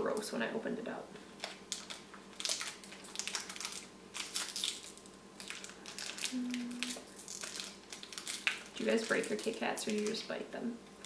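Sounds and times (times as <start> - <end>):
candy wrapper crinkling: 1.4 - 10.3.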